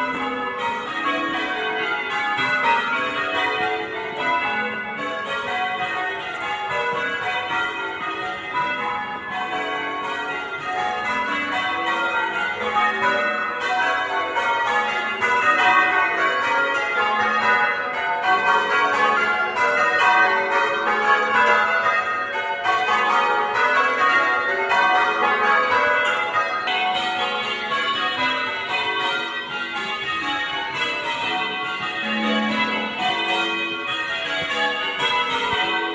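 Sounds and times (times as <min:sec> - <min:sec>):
church bells change ringing: 0:00.0 - 0:35.9.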